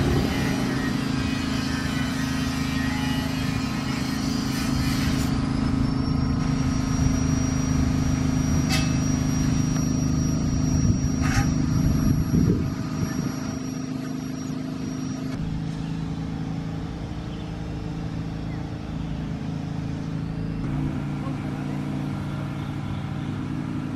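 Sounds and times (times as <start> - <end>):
faint high whine: 0.0 - 23.6
train engine hum: 0.0 - 23.9.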